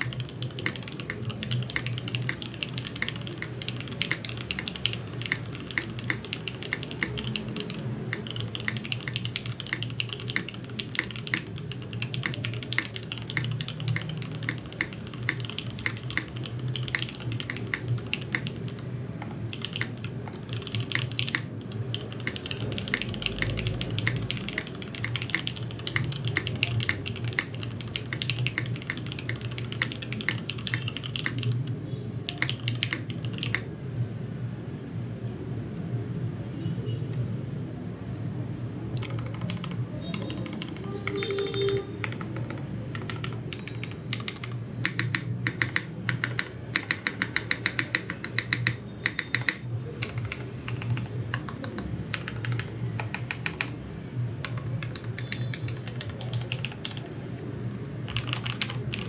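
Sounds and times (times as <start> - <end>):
fast typing on mechanical keyboard: 0.0 - 33.7, 38.9 - 59.0.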